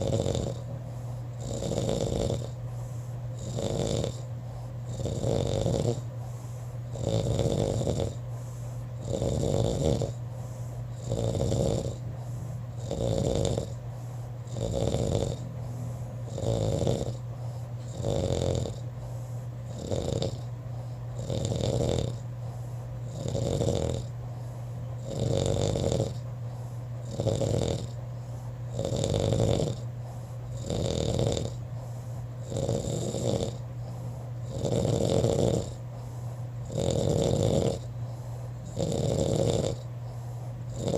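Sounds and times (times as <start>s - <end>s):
person snoring: 0.0s - 28.0s, 28.7s - 31.6s, 32.4s - 40.9s.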